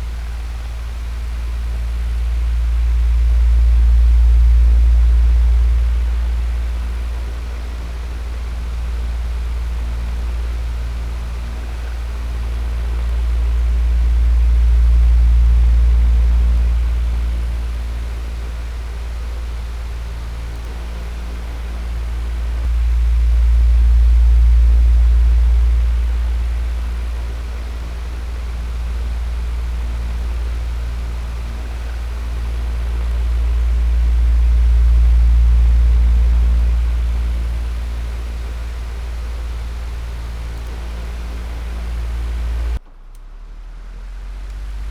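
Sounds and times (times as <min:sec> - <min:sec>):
electric fan running: 0:00.0 - 0:42.8.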